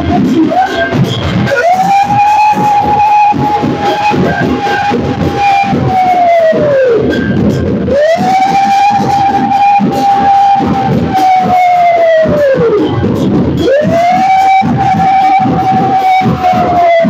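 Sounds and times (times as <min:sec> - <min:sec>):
dense drumming: 0:00.0 - 0:17.0
metal percussion: 0:00.0 - 0:17.0.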